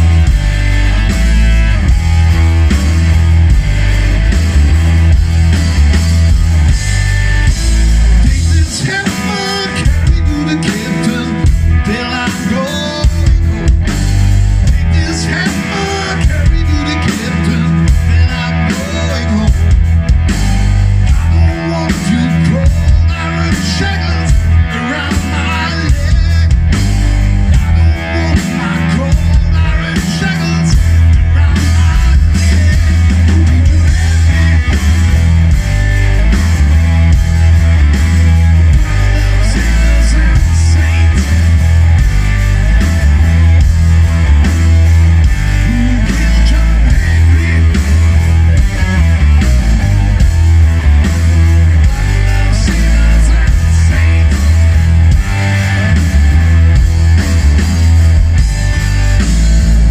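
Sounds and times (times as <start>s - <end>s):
drum kit: 0.0s - 59.9s
electric bass: 0.0s - 59.9s
electric guitar: 0.0s - 59.9s.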